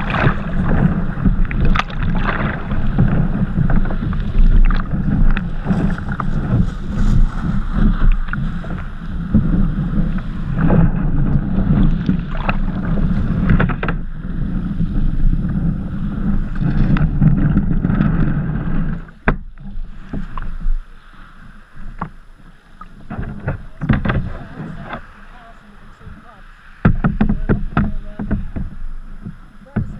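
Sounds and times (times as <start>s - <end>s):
surf slapping against kayak hull: 0.0s - 29.9s.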